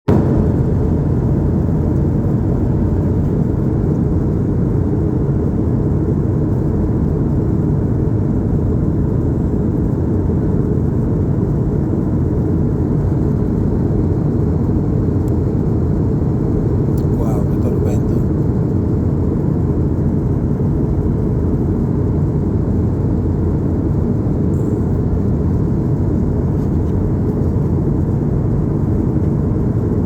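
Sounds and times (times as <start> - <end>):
airliner cabin rumble: 0.1 - 30.0.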